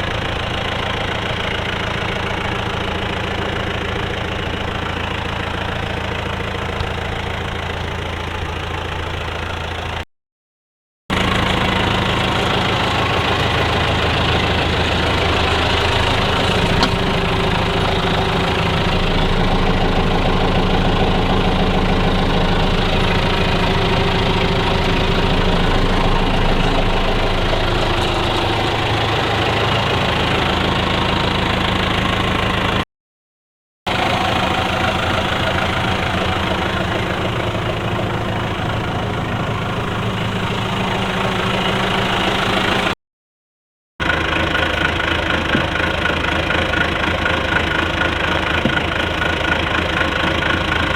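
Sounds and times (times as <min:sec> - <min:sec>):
diesel engine running: 0:00.0 - 0:10.0, 0:11.1 - 0:32.8, 0:33.9 - 0:43.0, 0:44.0 - 0:50.9.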